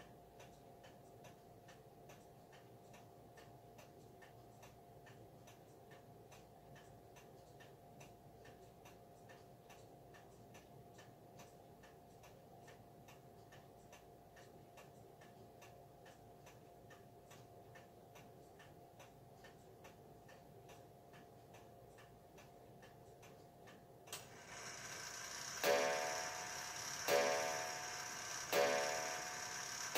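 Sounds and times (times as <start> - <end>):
wall clock ticking: 0.0 - 29.9.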